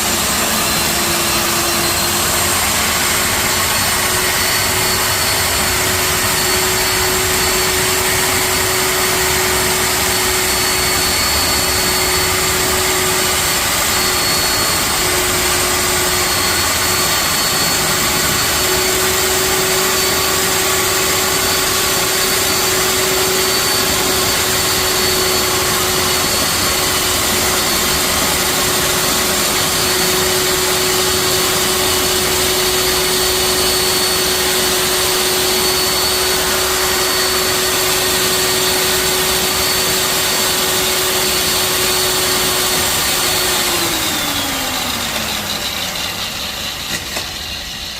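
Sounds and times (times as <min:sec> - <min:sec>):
concrete-cutting machine running: 0:00.0 - 0:47.9.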